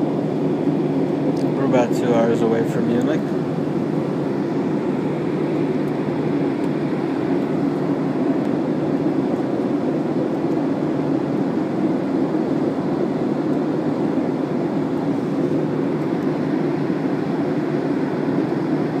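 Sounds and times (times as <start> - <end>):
airliner cabin drone: 0.0 - 19.0.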